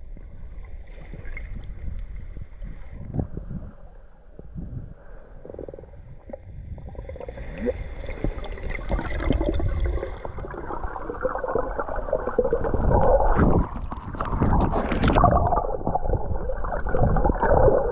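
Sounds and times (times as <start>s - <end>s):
underwater water rushing and bubbling: 0.0s - 17.9s.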